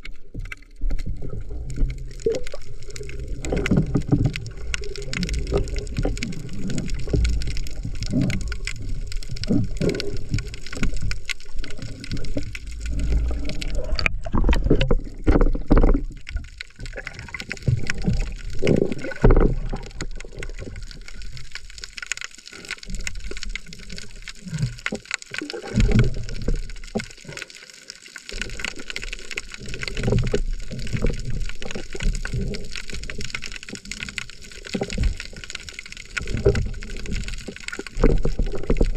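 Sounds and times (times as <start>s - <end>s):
muffled underwater water sloshing: 0.0s - 38.9s.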